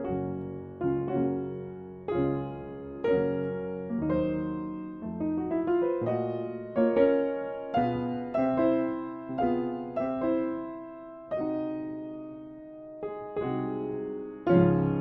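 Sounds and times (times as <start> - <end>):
upright piano playing: 0.0 - 15.0.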